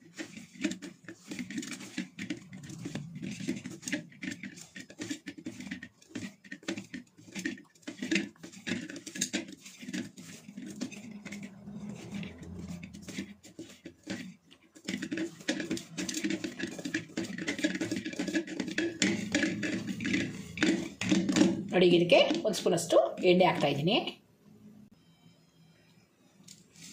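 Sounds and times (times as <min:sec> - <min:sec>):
knocks and scrapes of steel bowl: 0:00.0 - 0:22.6
hands kneading dough: 0:00.0 - 0:23.2.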